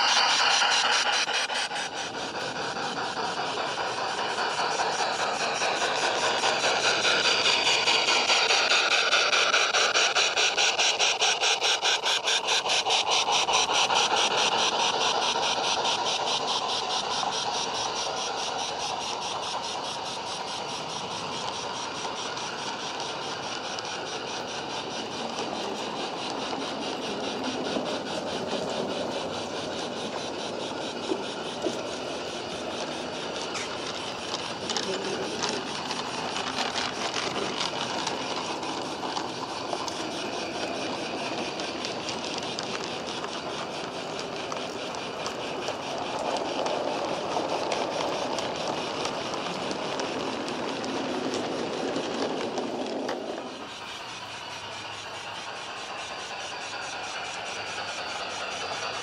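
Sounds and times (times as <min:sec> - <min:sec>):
model train wheels clattering: 0:00.0 - 0:59.0.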